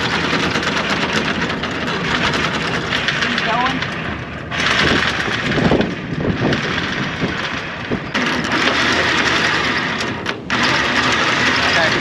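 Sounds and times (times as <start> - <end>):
anchor chain rattling: 0.0 - 12.0
anchor windlass running: 0.0 - 12.0.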